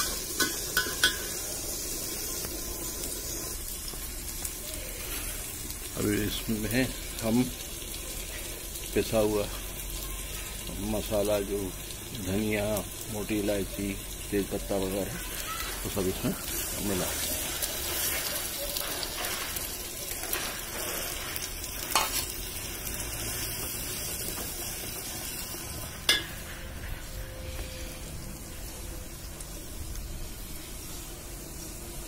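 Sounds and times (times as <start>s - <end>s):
spices sizzling in hot oil: 0.0s - 32.0s.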